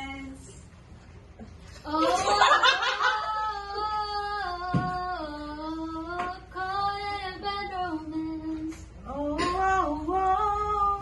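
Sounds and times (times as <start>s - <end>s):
woman singing: 0.0s - 0.6s, 1.8s - 11.0s.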